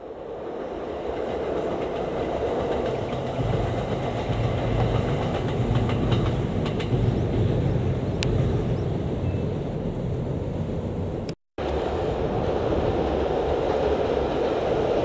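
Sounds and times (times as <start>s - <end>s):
distant train passing: 0.0s - 15.0s.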